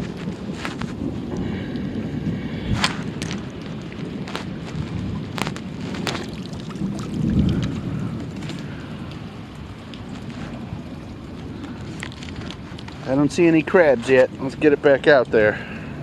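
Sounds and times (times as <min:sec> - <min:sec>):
steady rain: 0:00.0 - 0:16.0
wind on microphone: 0:00.0 - 0:16.0.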